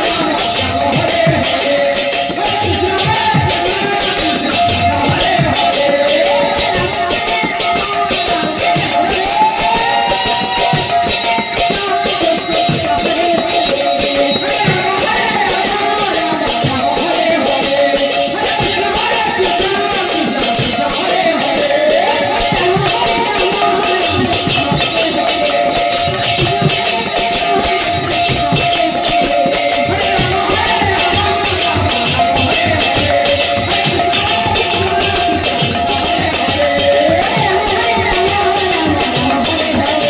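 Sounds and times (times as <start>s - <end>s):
man singing into microphone: 0.0s - 40.0s.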